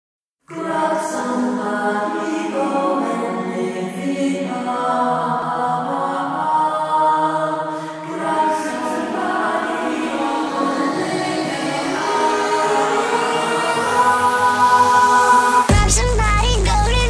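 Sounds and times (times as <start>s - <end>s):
choir-like background music: 0.5s - 17.0s.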